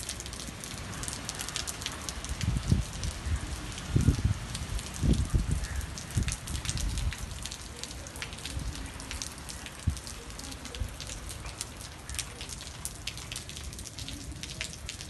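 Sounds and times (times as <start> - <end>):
rain drops ticking on hard surface: 0.0 - 15.0.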